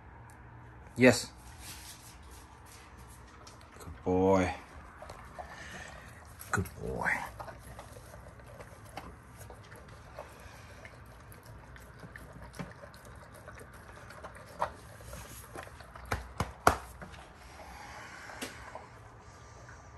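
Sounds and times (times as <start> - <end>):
dog chewing and slurping: 1.4 - 19.9.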